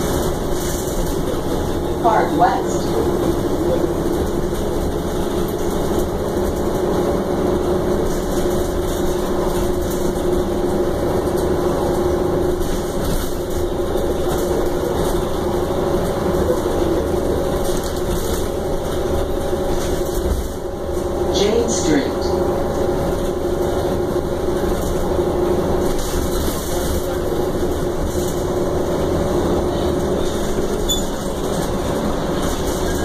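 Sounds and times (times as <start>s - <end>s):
bus engine hum with whine: 0.0s - 33.0s.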